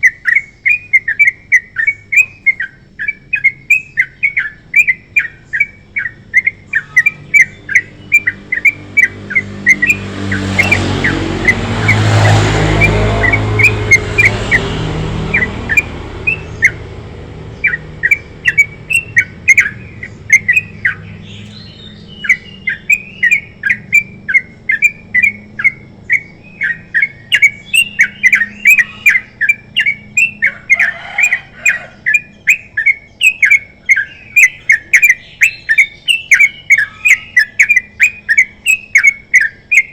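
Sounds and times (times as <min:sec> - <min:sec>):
bird chattering song: 0:00.0 - 0:39.9
low rumbling noise: 0:04.6 - 0:36.7.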